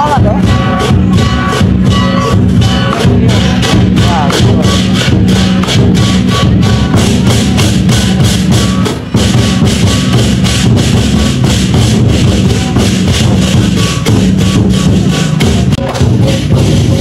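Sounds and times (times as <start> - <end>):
drums beaten fast: 0.0 - 17.0
hand cymbals clashing: 0.0 - 17.0.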